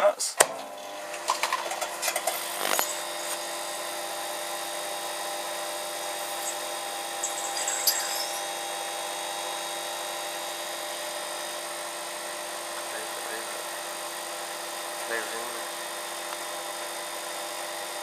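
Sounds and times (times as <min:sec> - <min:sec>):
microwave oven humming: 0:00.3 - 0:18.0.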